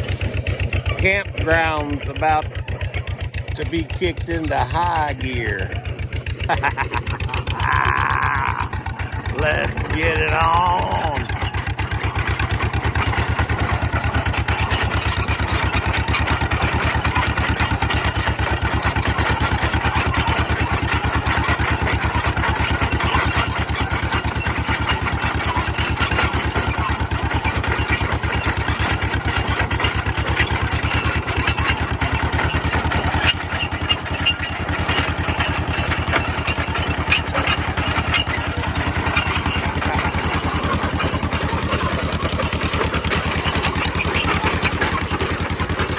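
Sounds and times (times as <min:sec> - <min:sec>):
dozer engine running: 0:00.0 - 0:45.9.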